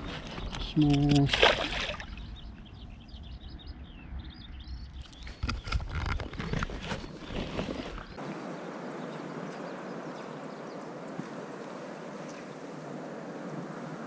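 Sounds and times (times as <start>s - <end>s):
small birds chirping: 0.0s - 12.8s
outdoor background noise: 0.0s - 14.0s.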